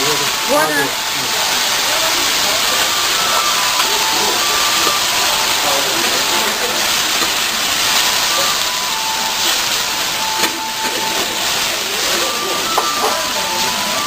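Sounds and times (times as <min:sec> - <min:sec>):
noodles sizzling on a griddle: 0:00.0 - 0:14.0.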